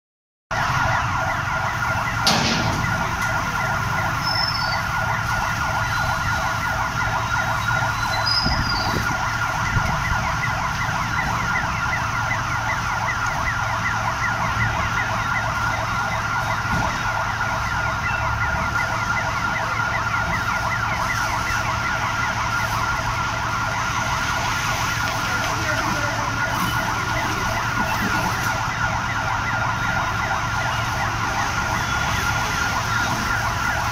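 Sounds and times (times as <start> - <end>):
siren warbling: 0.5 - 33.9.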